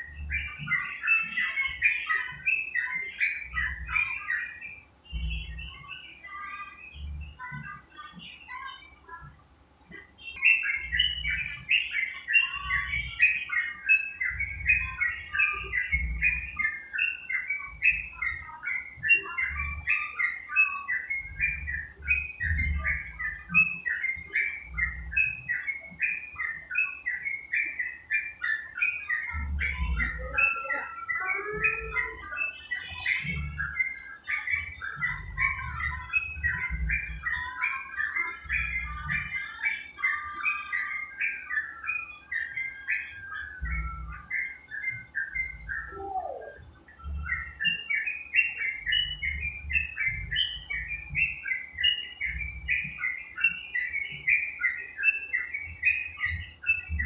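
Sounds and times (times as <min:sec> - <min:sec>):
bird singing rapid chirps: 0:00.0 - 0:57.0.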